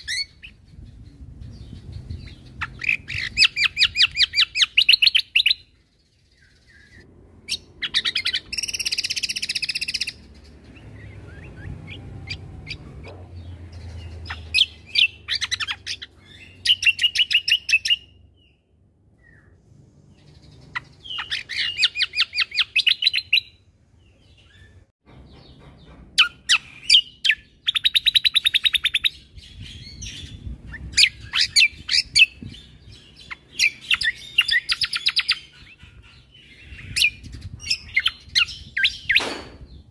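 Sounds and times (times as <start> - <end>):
songbird chirping trill: 0.0 - 39.9.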